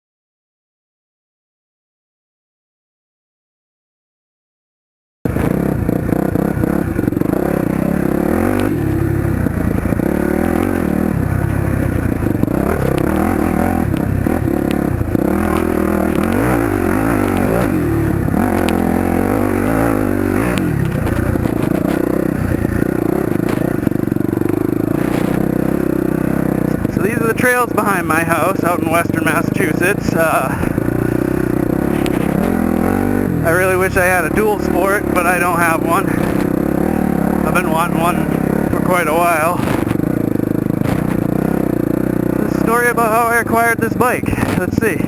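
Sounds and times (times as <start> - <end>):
dirt bike engine revving: 5.3 - 45.0.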